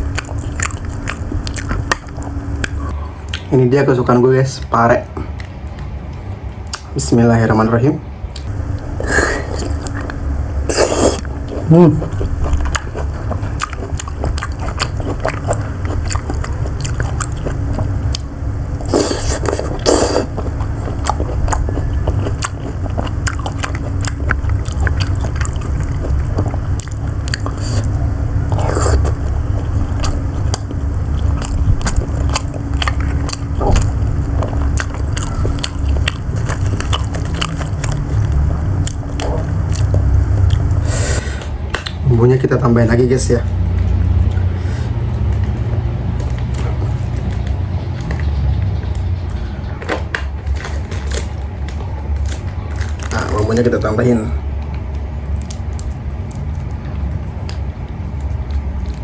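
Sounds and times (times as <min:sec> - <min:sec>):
close chewing and biting: 0:00.0 - 0:03.5, 0:08.4 - 0:41.2, 0:43.6 - 0:59.0.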